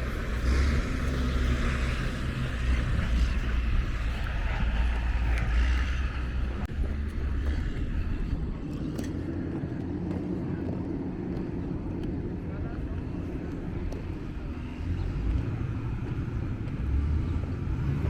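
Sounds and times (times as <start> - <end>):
deep rumble: 0.0 - 18.0
low hum: 0.0 - 18.0
vehicle engines running: 0.0 - 18.0.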